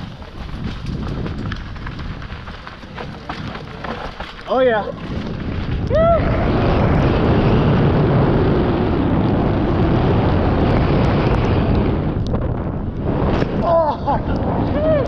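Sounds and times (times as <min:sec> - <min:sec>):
bike tyres rumbling on dirt: 0:00.0 - 0:15.0
wind buffeting microphone: 0:00.0 - 0:15.0.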